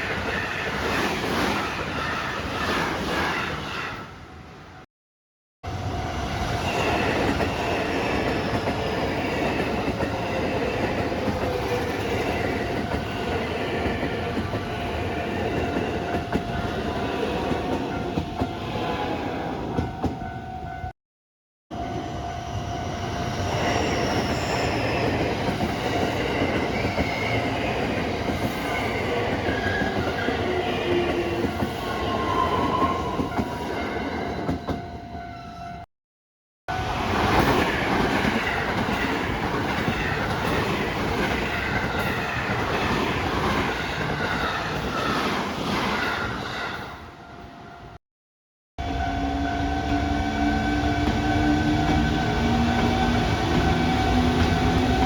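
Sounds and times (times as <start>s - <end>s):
electric train running on rails: 0.0s - 4.8s, 5.7s - 20.9s, 21.7s - 35.9s, 36.7s - 48.0s, 48.8s - 55.0s.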